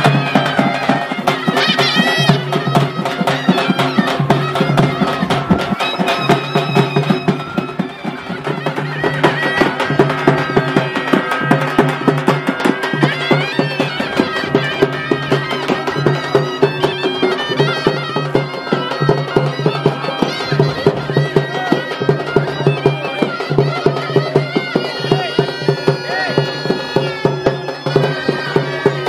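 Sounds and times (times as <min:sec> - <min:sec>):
double-headed drums beating: 0:00.0 - 0:29.0
reed instrument melody: 0:00.0 - 0:29.0.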